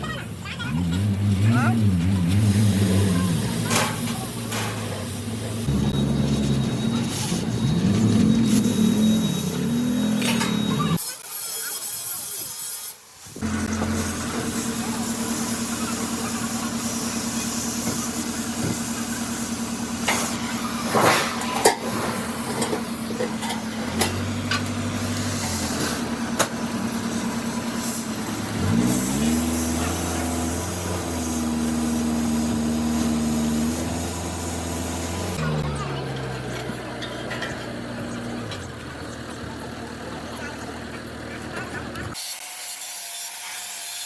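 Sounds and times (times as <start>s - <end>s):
engine running steadily: 0.0s - 11.0s, 13.4s - 42.2s.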